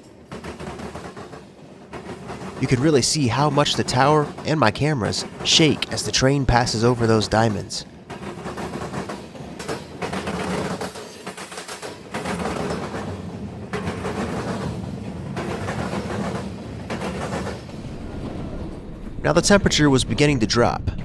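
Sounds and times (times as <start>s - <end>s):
train wheels clattering over crossing: 0.0s - 19.1s.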